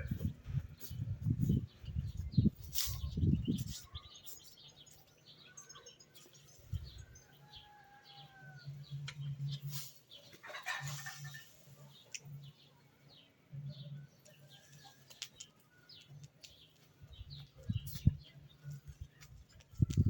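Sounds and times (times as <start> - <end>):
small birds chirping and whistling: 0.0 - 20.0.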